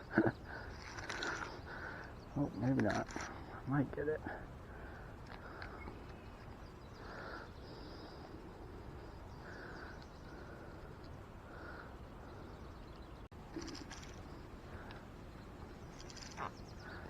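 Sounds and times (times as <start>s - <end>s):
soft bird calls: 0.0s - 17.0s.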